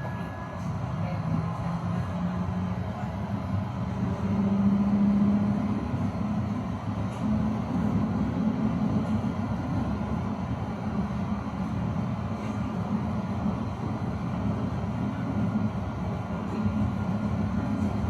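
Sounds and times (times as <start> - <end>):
tram rolling on rails: 0.0 - 18.0.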